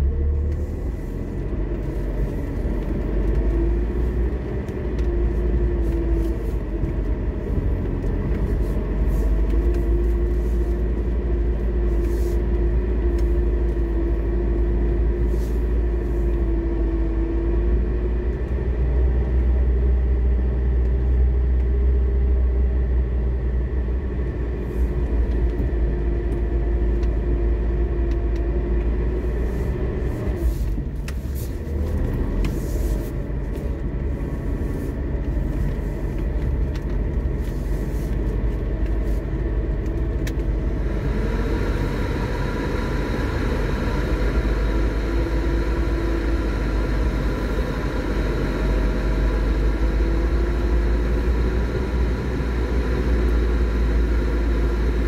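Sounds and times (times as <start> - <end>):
car engine deep rumble: 0.0 - 55.0.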